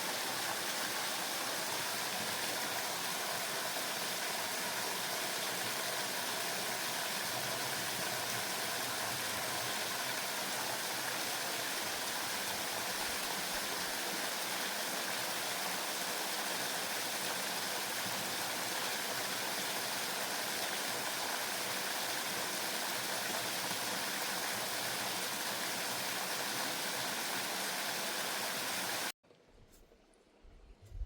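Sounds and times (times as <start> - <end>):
waterfall rushing: 0.0 - 29.1.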